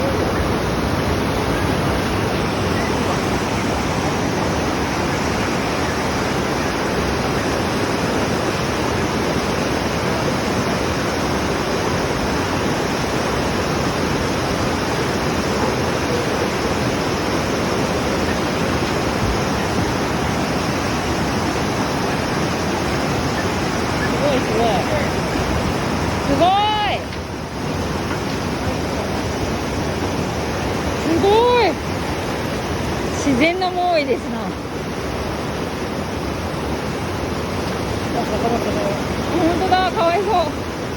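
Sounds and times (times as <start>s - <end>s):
water rushing out: 0.0s - 40.9s.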